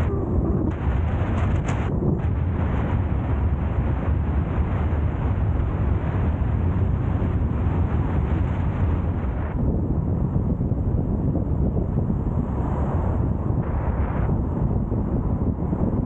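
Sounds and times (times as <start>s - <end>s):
car road noise and wind rush: 0.0s - 16.0s
wind buffeting microphone: 0.0s - 16.0s.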